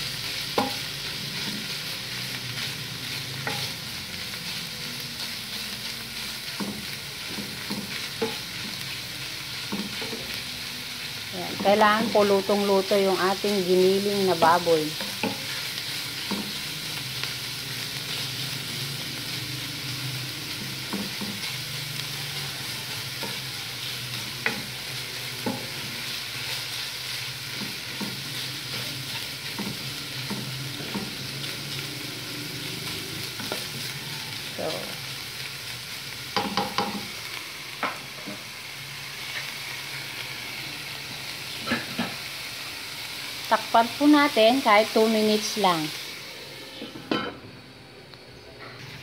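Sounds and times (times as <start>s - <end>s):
meat sizzling in a pan: 0.0s - 47.8s.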